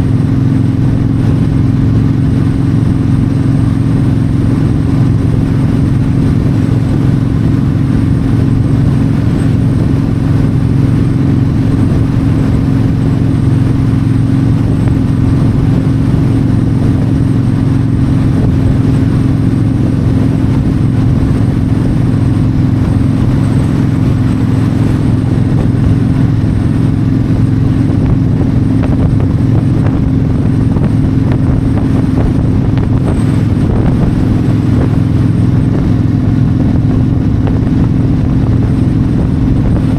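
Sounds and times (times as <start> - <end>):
motorcycle engine cruising: 0.0 - 39.9
wind rush over microphone: 0.0 - 39.9.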